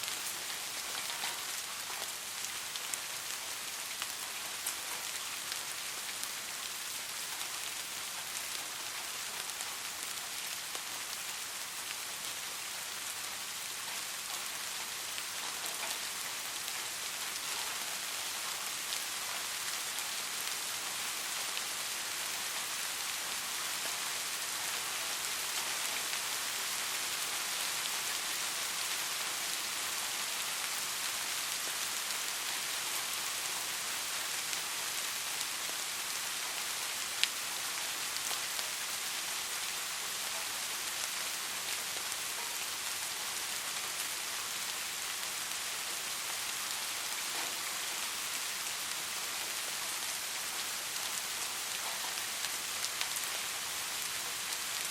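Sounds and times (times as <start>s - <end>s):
soft rain hiss: 0.0s - 54.9s.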